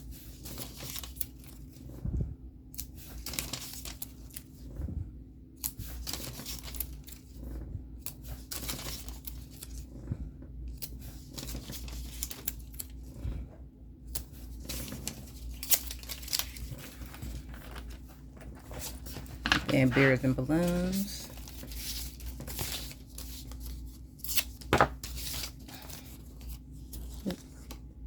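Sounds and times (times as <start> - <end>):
paper rustling: 0.3 - 1.9, 3.0 - 4.7, 5.6 - 9.9, 10.8 - 13.2, 14.2 - 27.8.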